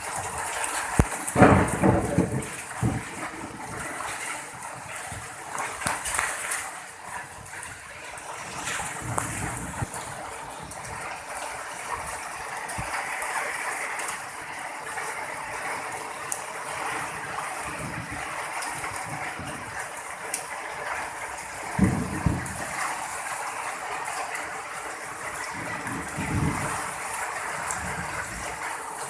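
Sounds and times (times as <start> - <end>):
heavy rain: 0.0 - 29.0
water drips and spatters: 0.0 - 29.0
water running and splashing: 0.0 - 29.0.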